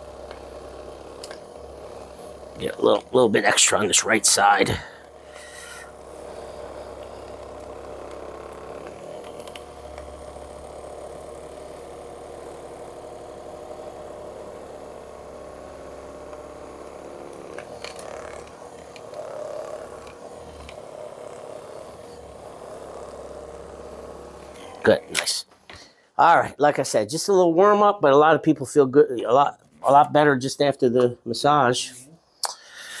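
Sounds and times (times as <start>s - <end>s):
massage gun motor buzzing: 0.0s - 28.9s.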